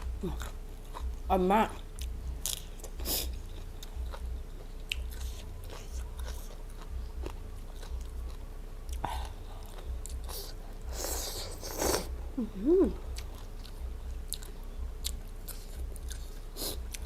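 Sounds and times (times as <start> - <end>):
chewing and crunching food: 0.0 - 12.1, 13.1 - 17.0.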